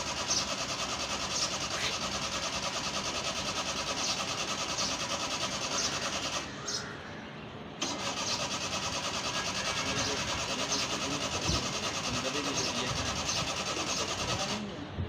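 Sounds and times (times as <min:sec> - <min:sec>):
small car engine running: 0:00.0 - 0:06.9, 0:07.8 - 0:14.9.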